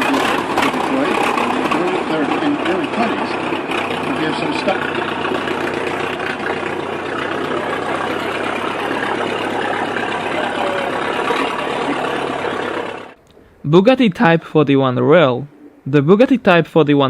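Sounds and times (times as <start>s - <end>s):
car engine running: 0.0s - 13.7s.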